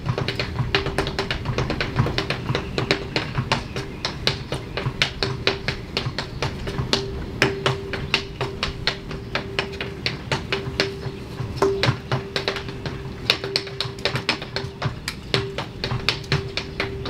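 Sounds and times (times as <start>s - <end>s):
tap shoes on stage floor: 0.0s - 17.0s.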